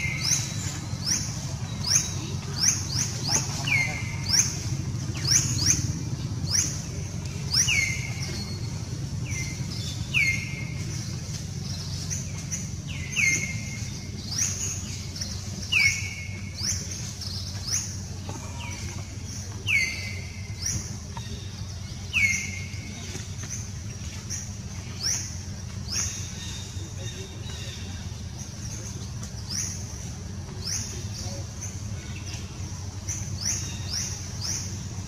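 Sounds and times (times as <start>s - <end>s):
bird calling: 0.0s - 28.6s
steady low hum: 0.0s - 35.0s.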